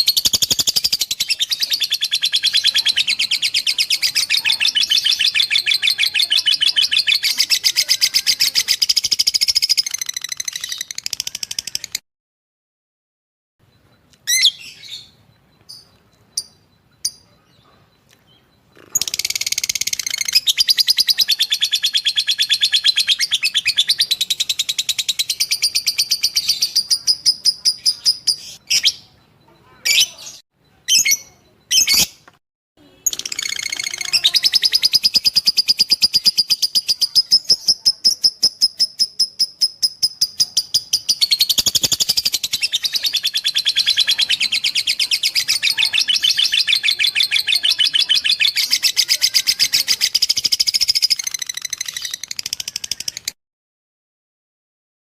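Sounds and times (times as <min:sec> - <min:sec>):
lovebird chattering: 0:00.0 - 0:12.0, 0:14.2 - 0:29.1, 0:32.8 - 0:53.4.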